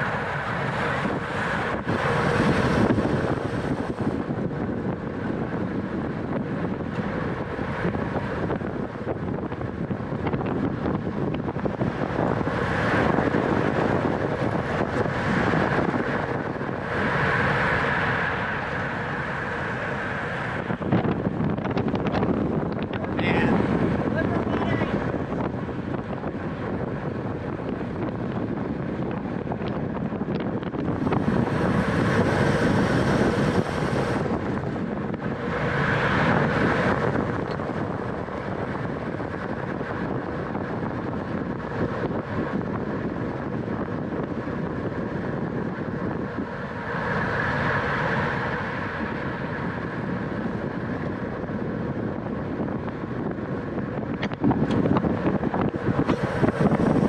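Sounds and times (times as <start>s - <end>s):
bicycle tyre and drivetrain noise: 0.0s - 57.0s
wind rushing over microphone: 0.0s - 57.0s.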